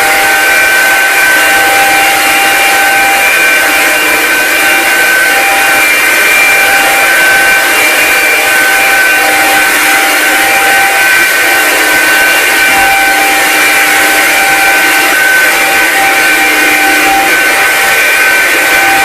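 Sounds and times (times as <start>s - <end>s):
cordless vacuum running: 0.0s - 19.0s.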